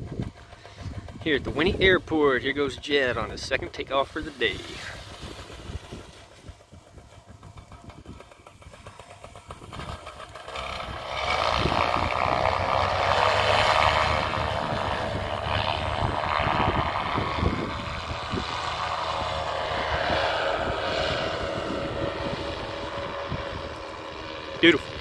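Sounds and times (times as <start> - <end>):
paramotor engine and propeller: 0.0 - 25.0.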